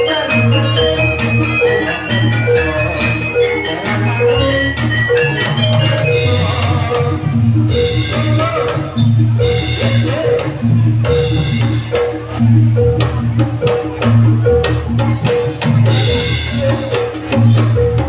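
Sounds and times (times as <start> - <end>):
gamelan drums and gongs: 0.0 - 18.0.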